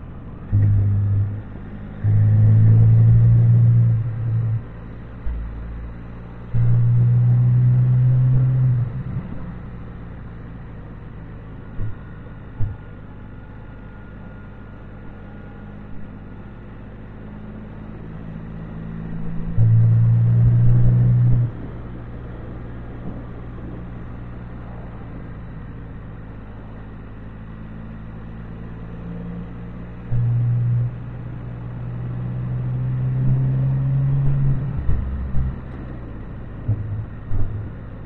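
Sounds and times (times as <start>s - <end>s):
wind and road noise: 0.0s - 38.0s.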